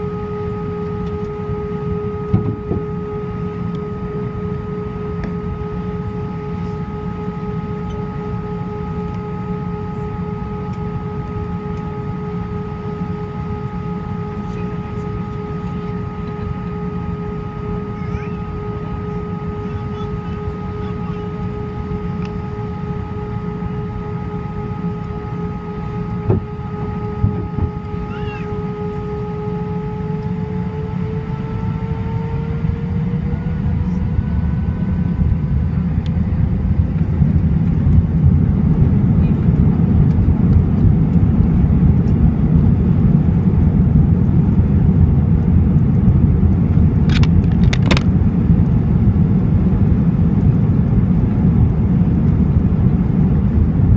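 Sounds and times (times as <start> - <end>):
jet engines idling: 0.0 - 53.9.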